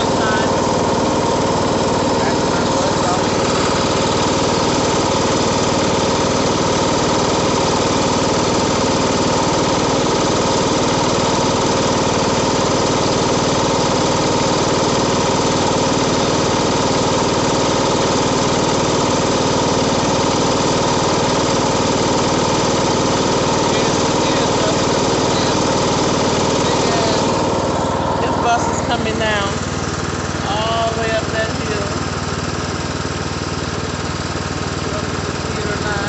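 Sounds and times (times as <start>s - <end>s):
lawn mower engine running: 0.0s - 36.0s.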